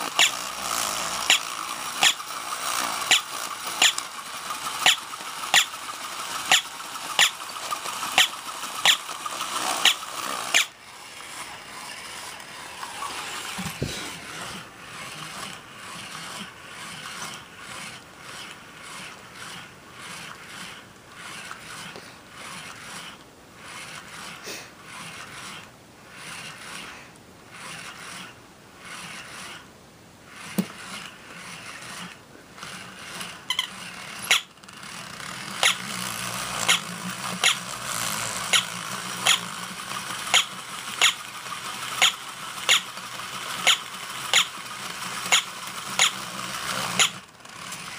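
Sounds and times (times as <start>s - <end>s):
toy motor whirring: 0.0s - 47.9s.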